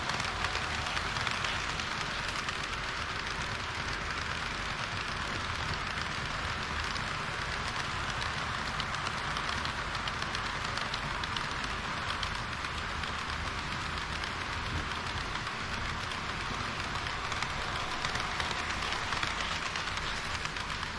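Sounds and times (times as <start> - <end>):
model train running on track: 0.0 - 20.9.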